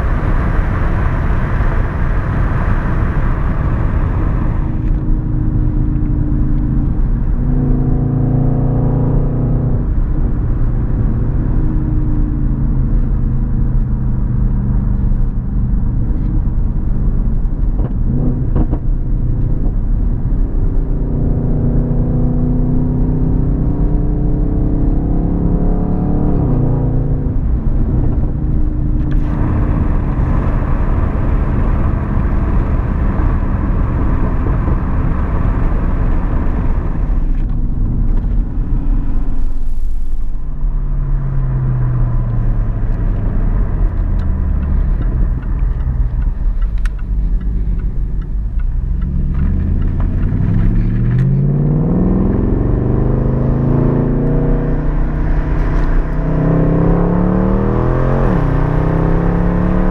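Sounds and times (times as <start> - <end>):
car exhaust heard from cabin: 0.0 - 59.9.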